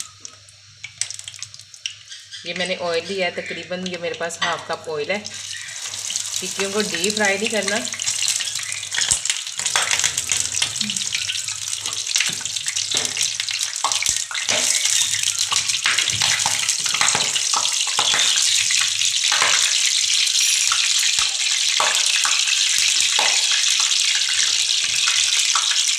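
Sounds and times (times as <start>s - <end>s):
food sizzling in hot oil: 0.0s - 25.9s.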